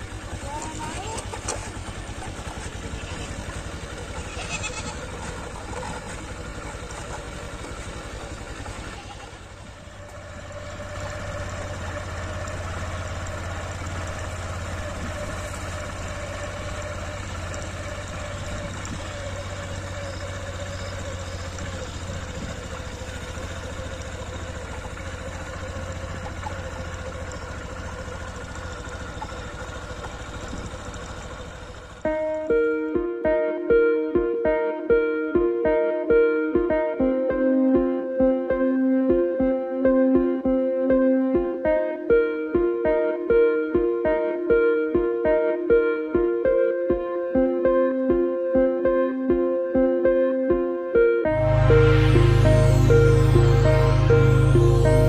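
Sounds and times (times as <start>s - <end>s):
motorcycle engine running: 0.0s - 49.9s, 51.2s - 55.0s.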